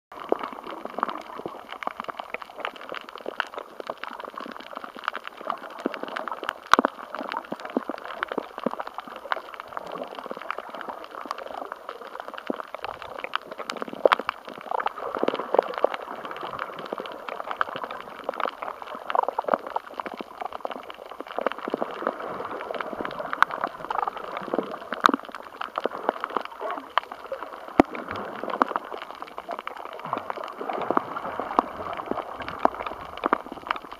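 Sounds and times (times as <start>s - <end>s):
crackle of small clicks and pops: 0.1s - 33.9s
underwater watery wash: 0.1s - 33.9s.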